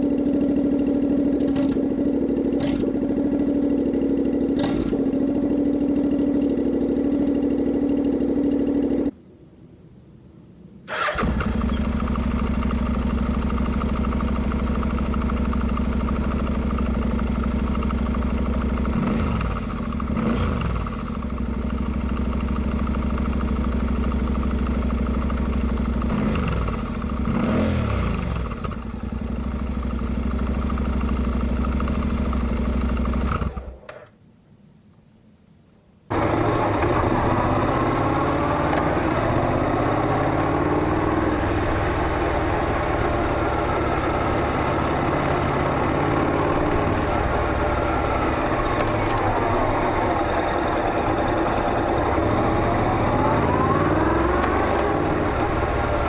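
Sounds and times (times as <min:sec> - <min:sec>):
motorcycle engine idling and revving: 0:00.0 - 0:09.2, 0:10.9 - 0:34.2, 0:36.1 - 0:56.0.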